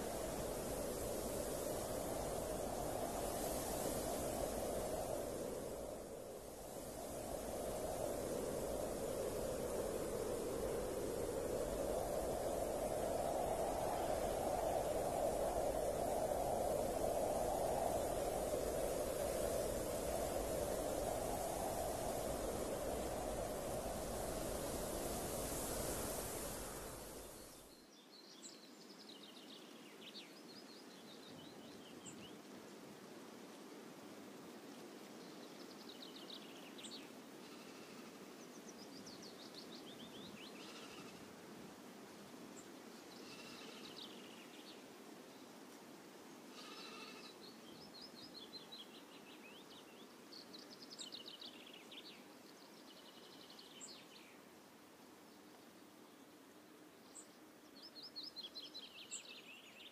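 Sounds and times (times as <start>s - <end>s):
faint outdoor hiss: 0.0s - 59.9s.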